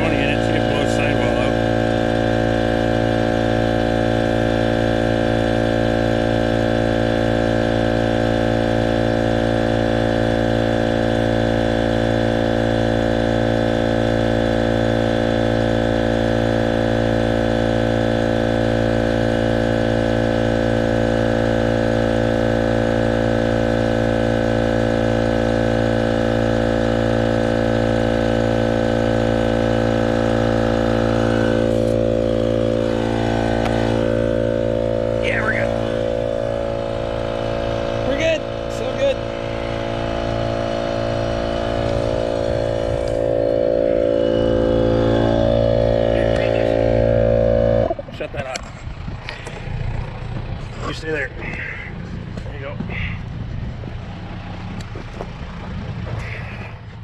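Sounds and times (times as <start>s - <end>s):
small air compressor running: 0.0s - 57.0s.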